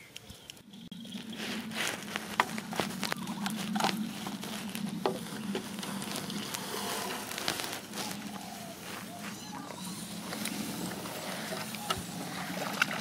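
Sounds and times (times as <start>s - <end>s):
steady low hum: 0.0s - 13.0s
rustling in grass: 0.9s - 13.0s.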